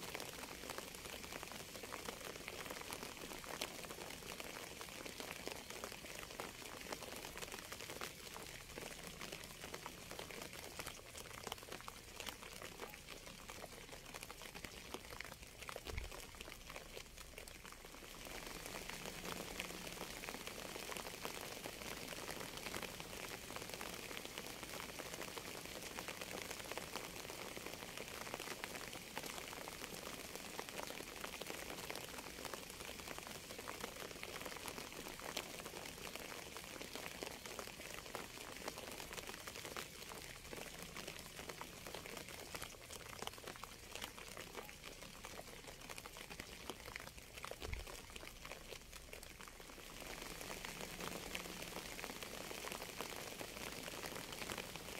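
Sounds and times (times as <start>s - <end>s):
steady rain patter: 0.0s - 54.9s.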